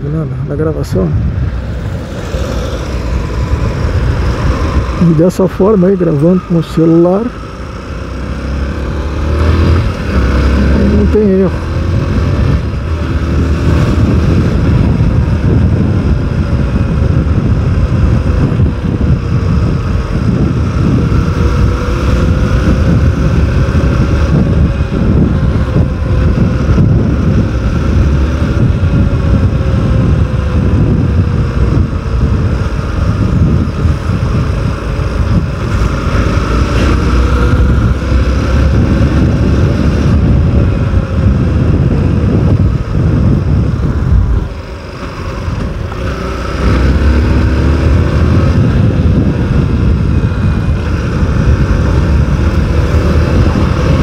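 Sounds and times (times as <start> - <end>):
heavy low rumble: 0.0 - 54.0
motorcycle engine cruising: 0.0 - 54.0.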